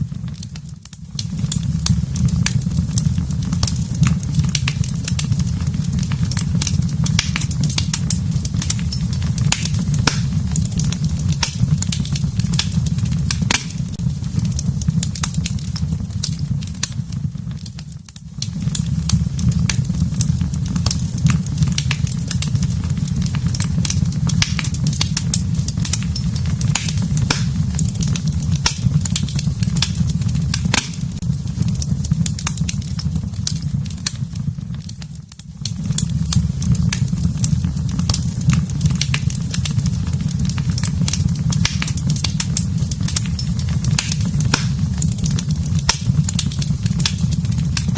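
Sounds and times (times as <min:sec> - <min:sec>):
fire crackling and popping: 0:00.0 - 0:47.9
fire rumbling: 0:00.0 - 0:47.9.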